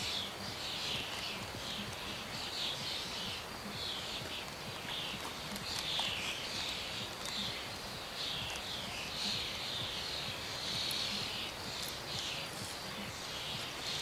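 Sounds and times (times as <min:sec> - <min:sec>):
low background noise: 0:00.0 - 0:14.0
small birds chirping: 0:00.0 - 0:14.0.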